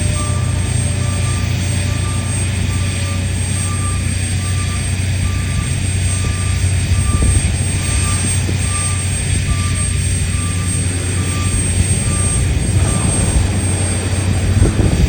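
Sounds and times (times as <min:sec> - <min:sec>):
backup alarm beeping: 0:00.0 - 0:15.0
heavy diesel machinery humming: 0:00.0 - 0:15.0.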